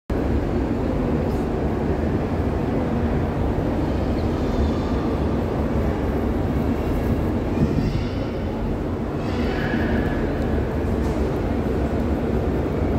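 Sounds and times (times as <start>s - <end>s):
low rumble of indoor hall: 0.1s - 12.9s.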